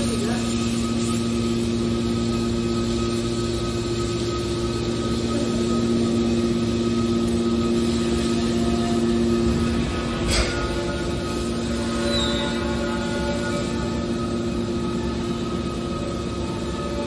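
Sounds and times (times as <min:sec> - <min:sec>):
hydraulic baler humming: 0:00.0 - 0:17.0.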